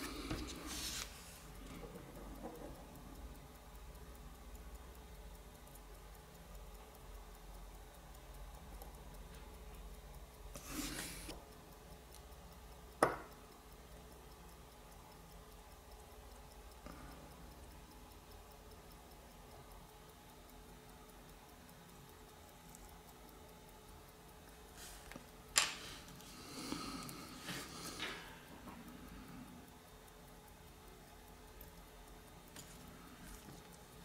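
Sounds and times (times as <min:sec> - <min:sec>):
watch ticking: 0:00.0 - 0:34.0.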